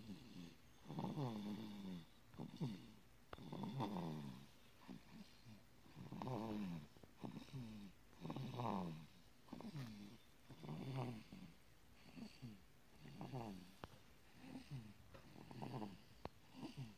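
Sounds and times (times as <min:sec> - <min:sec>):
baby snoring: 0:00.0 - 0:16.9.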